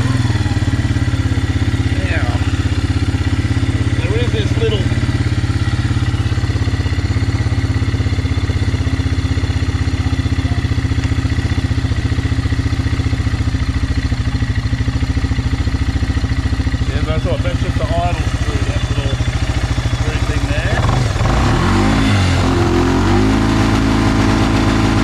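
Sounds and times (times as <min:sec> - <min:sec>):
quad bike engine idling: 0:00.0 - 0:25.0.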